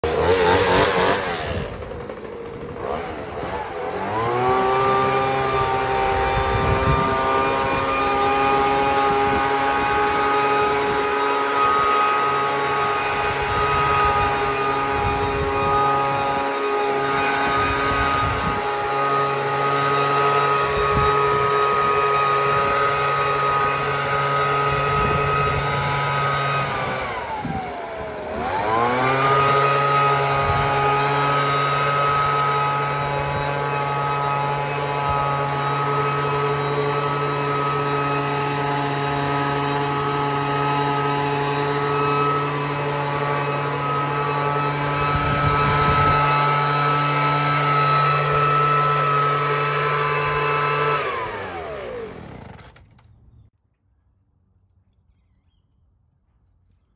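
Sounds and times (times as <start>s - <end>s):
motor-driven machine droning: 0.0s - 53.0s.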